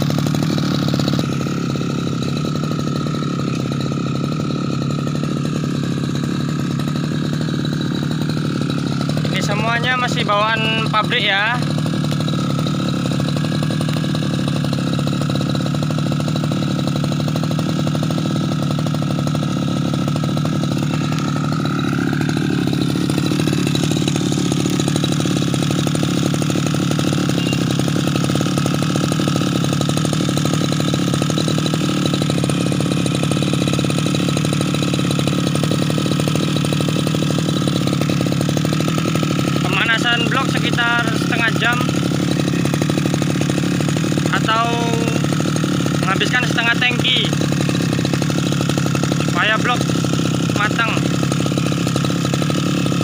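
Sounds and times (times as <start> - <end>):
brush cutter engine running: 0.0 - 53.0.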